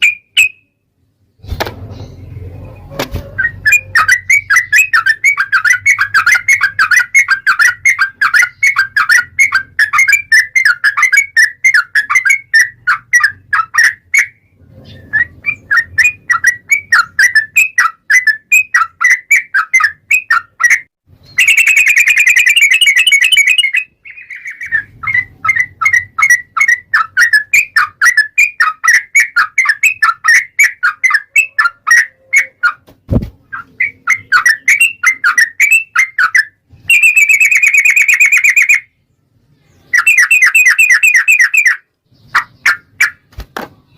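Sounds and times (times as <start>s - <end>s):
bird singing rapid chattering song: 3.4s - 32.8s, 33.4s - 43.9s.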